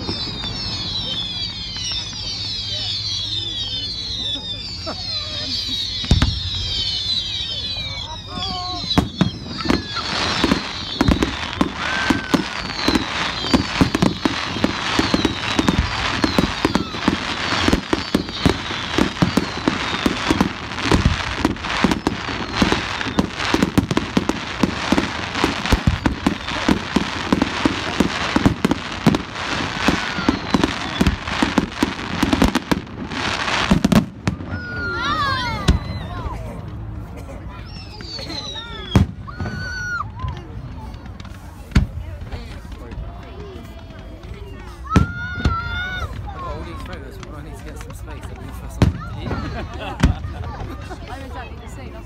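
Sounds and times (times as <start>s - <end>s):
falling firework whistles: 0.0s - 36.4s, 37.5s - 52.0s
fireworks bursting: 0.0s - 52.0s
fireworks crackling: 0.0s - 52.0s.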